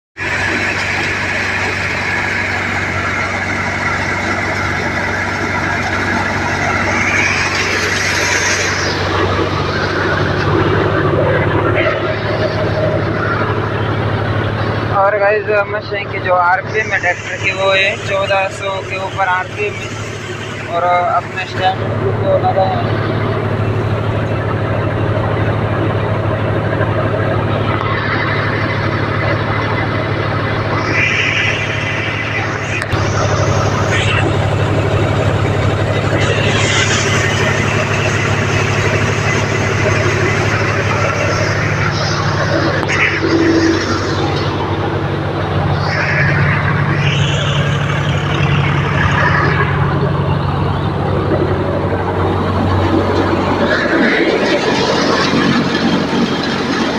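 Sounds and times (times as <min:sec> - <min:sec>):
thresher rushing whir: 0:00.2 - 0:56.9
tractor engine hum: 0:00.2 - 0:56.9.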